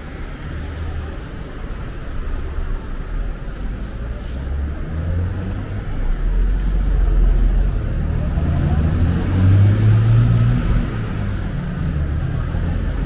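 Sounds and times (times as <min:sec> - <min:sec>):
motor vehicle engine rumbling: 0:00.0 - 0:13.0.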